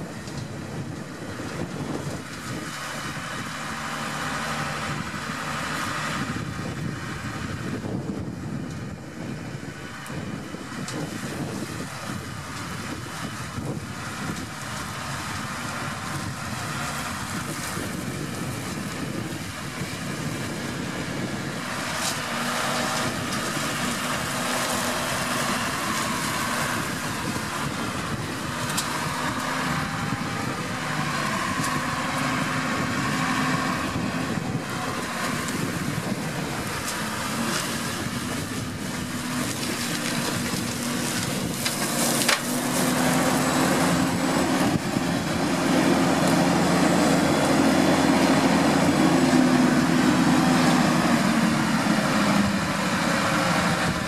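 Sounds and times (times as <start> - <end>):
flail mower cutting grass: 0.0 - 54.0
tractor engine running: 0.0 - 54.0.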